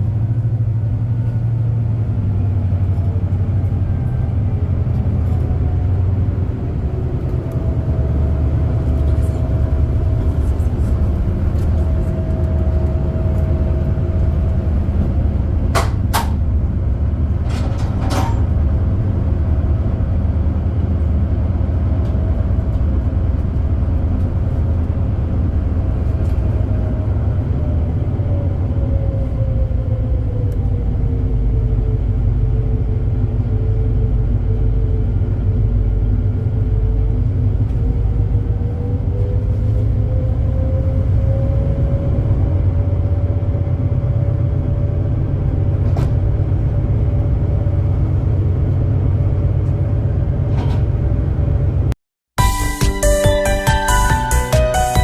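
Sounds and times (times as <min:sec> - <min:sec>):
ferry engines droning: 0:00.0 - 0:55.0.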